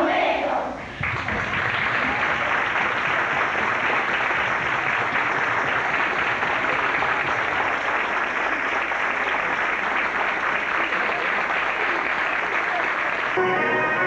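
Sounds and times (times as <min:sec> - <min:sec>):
audience applauding: 0:00.8 - 0:14.0.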